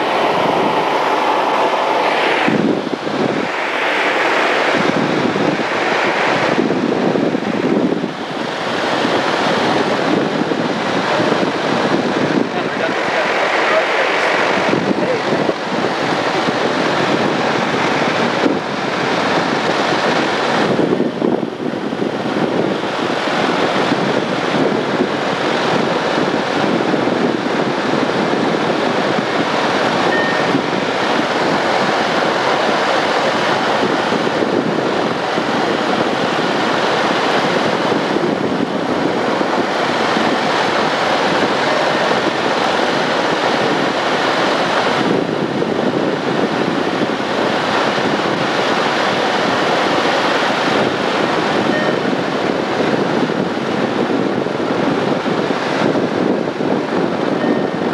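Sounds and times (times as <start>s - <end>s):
propeller plane engine droning: 0.0s - 57.9s.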